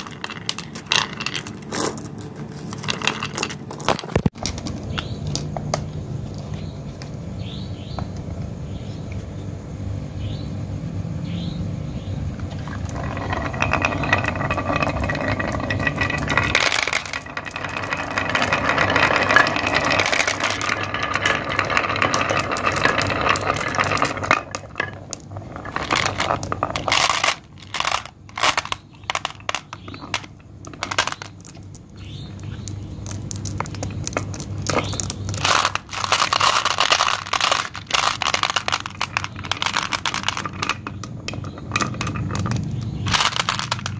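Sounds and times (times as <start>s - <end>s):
glass marbles rolling on wood: 0.0s - 5.4s, 12.3s - 43.9s
marbles dropping into plastic truck: 0.0s - 5.9s, 12.4s - 43.9s.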